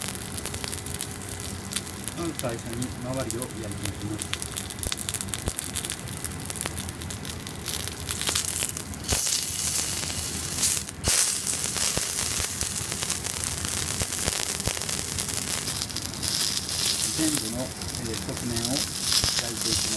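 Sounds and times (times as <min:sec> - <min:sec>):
meat sizzling in a frying pan: 0:00.0 - 0:19.9.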